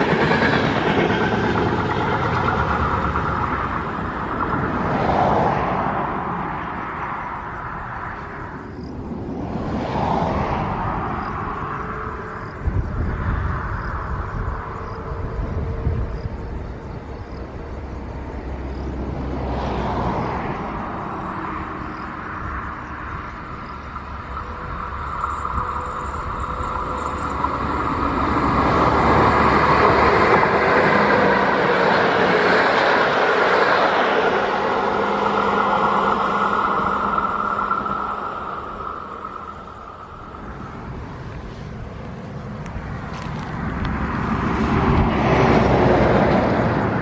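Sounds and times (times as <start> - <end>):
electric locomotive whine: 0.0 - 47.0
wheels rumbling on rails: 0.0 - 47.0.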